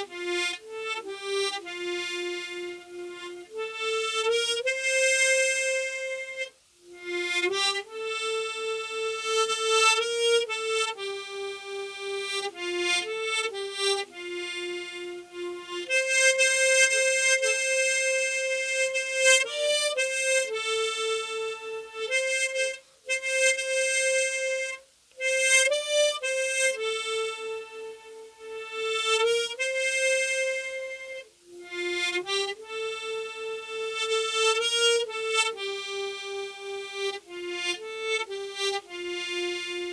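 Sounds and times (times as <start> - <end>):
harmonica playing slow melody: 0.0 - 39.9.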